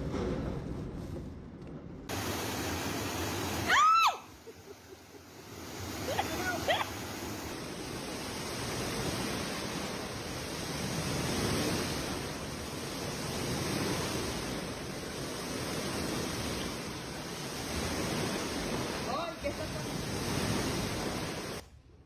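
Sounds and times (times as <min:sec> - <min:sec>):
storm wind and water rushing: 0:00.0 - 0:21.7.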